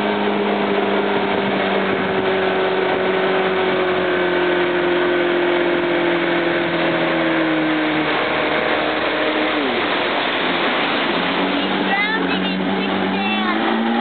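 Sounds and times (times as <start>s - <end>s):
boat engine running: 0.0s - 14.0s
churning wake: 0.0s - 14.0s.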